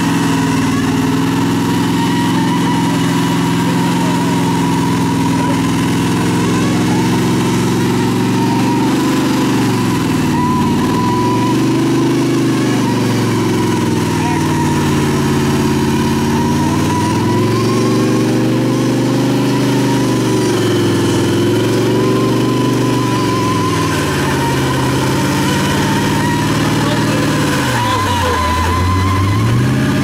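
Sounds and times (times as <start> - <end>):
engine running at raised revs: 0.0 - 30.0.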